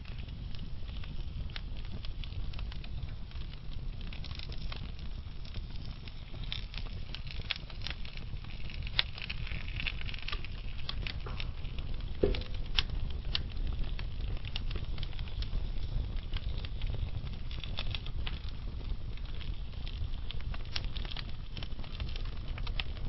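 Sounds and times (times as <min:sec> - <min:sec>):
fire crackles and pops: 0:00.0 - 0:23.0
fireplace fire rumble: 0:00.0 - 0:23.0.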